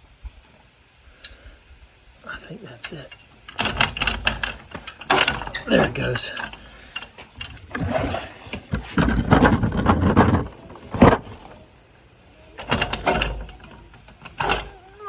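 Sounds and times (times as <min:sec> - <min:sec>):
metal scraping and rattling: 0:02.8 - 0:15.0.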